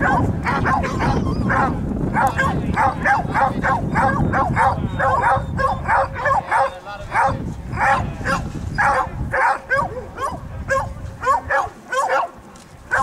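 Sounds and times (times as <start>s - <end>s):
hounds yelping and baying: 0.0s - 13.0s.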